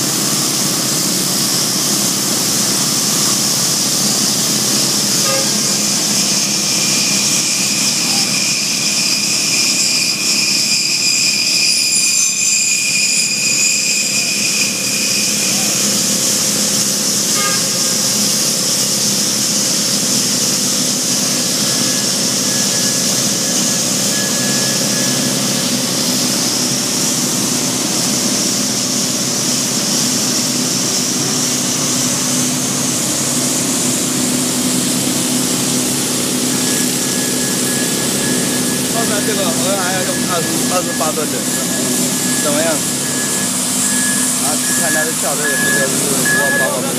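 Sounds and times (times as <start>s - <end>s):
loud high-pitched whine: 0.0s - 46.9s
machinery engine drone: 0.0s - 46.9s.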